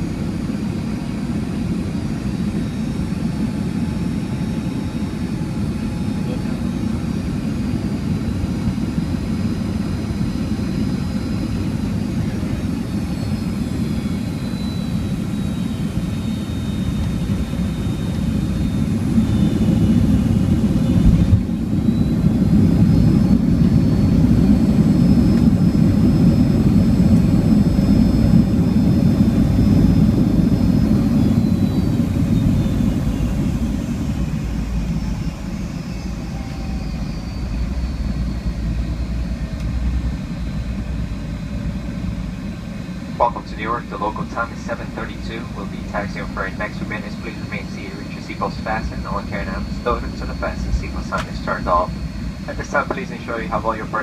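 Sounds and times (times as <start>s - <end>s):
high engine whine: 0.0s - 54.0s
jet engine roar in cabin: 0.0s - 54.0s.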